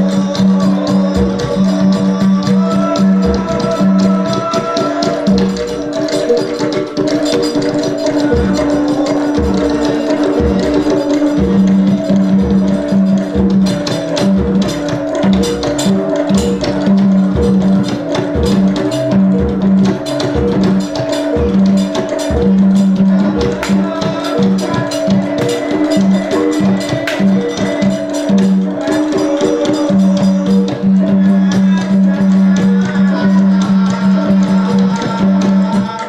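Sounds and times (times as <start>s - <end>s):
drum strokes: 0.0s - 36.0s
metallophone notes: 0.0s - 36.0s.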